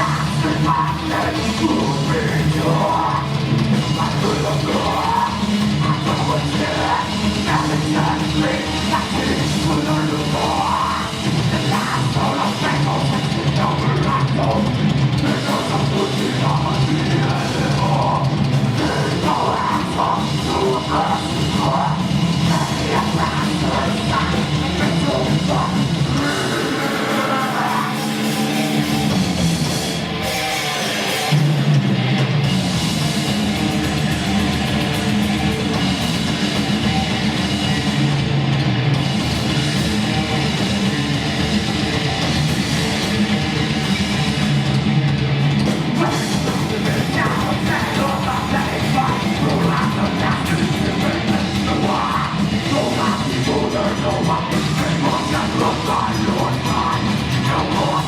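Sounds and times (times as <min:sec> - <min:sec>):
heavy metal song: 0:00.0 - 0:58.0.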